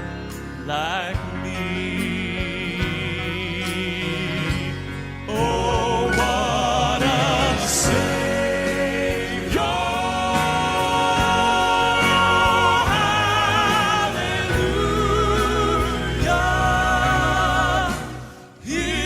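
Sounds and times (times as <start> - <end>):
male quartet singing harmony: 0.6 - 19.0.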